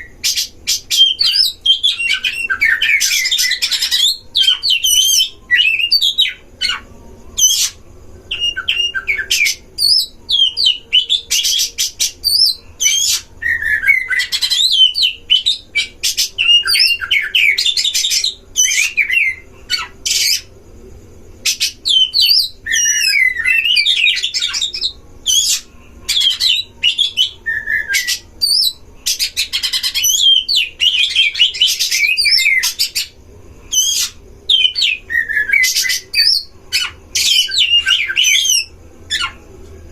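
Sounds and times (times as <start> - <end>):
birds singing whistled phrases: 0.0 - 20.6, 21.4 - 39.5.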